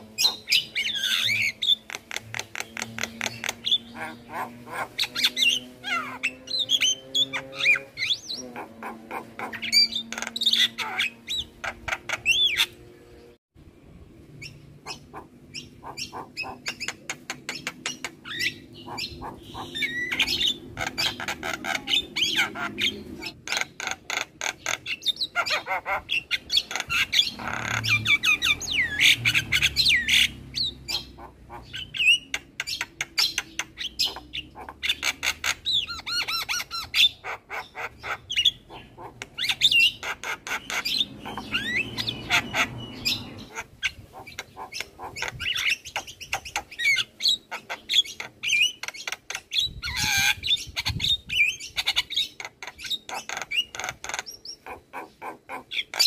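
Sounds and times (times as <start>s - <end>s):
bird singing with clicks and squawks: 0.0s - 13.4s, 14.4s - 56.0s.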